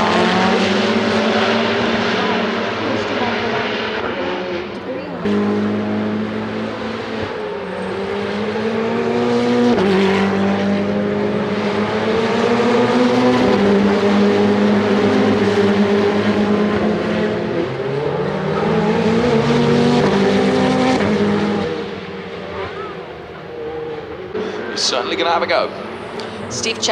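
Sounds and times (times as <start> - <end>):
race car engines running hard: 0.0 - 26.9.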